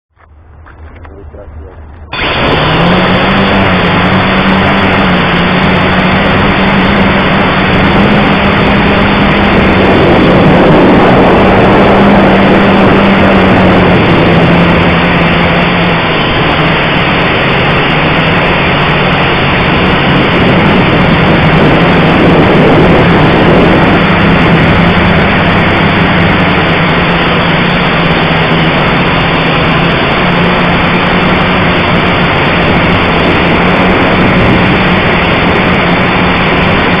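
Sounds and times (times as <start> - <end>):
drone propellers buzzing: 0.2 - 37.0.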